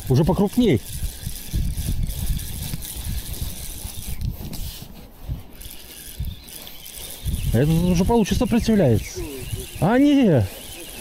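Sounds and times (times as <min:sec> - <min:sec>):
fishing reel cranking: 0:00.0 - 0:11.0.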